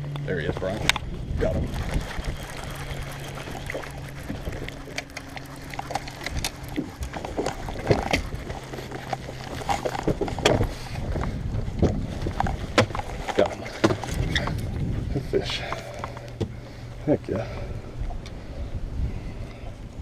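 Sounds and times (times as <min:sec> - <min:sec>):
low hum: 0:00.0 - 0:20.0
water splashes: 0:00.6 - 0:18.5.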